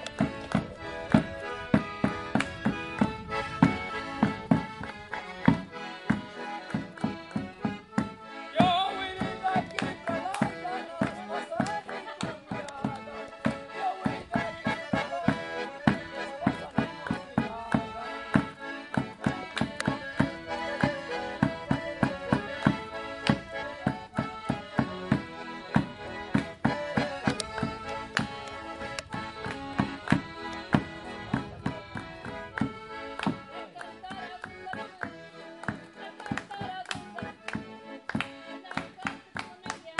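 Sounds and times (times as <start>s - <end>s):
accordions playing folk tune: 0.0s - 39.9s.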